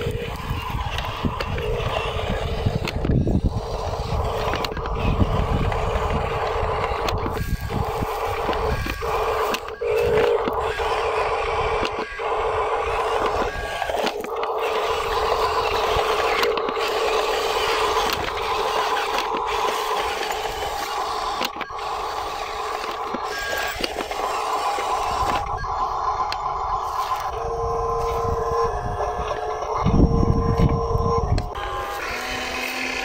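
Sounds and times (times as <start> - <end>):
electric motors whining: 0.0 - 33.0
tyres crunching over gravel: 0.0 - 33.0.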